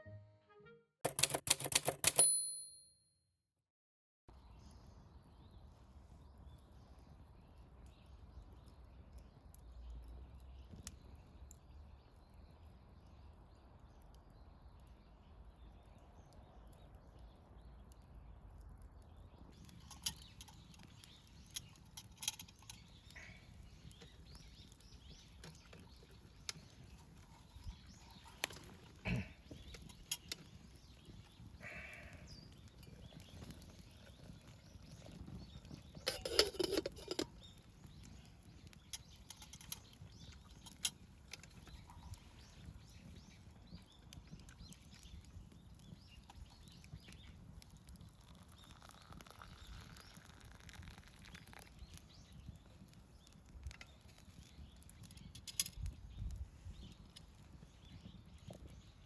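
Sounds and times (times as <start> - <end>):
faint outdoor background: 0.0 - 3.1, 4.3 - 59.0
wood fire crackling: 4.4 - 59.0.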